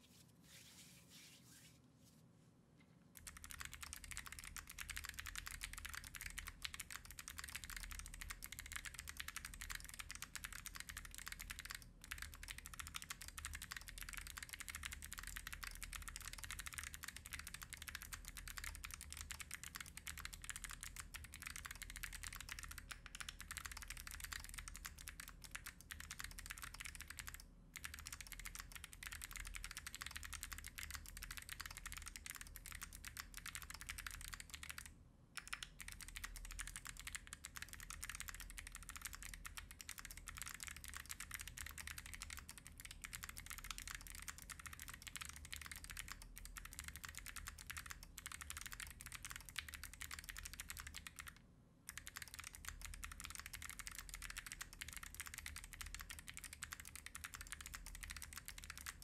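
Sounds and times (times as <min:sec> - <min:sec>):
mechanical keyboard typing: 0:03.2 - 0:59.0.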